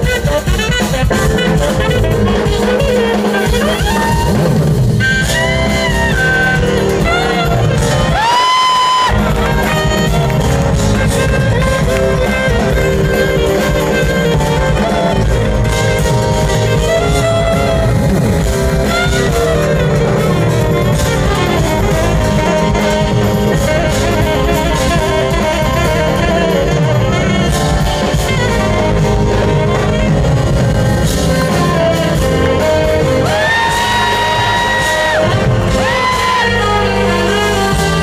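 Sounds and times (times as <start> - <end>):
jazz band with drums: 0.0 - 38.0
tenor saxophone solo: 0.0 - 38.0.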